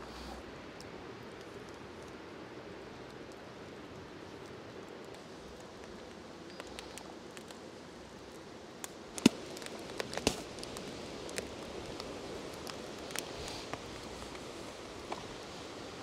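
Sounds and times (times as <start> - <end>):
campfire crackling: 0.0 - 16.0
faint steady hiss: 0.0 - 16.0.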